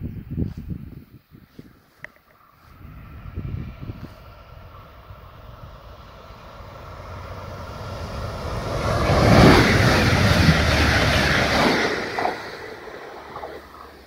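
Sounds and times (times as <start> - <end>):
train passing at speed: 2.5 - 14.0.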